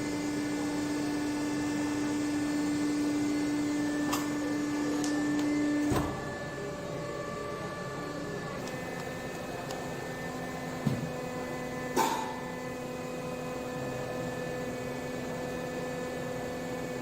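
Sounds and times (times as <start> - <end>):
welding machine electrical hum: 0.0 - 17.0.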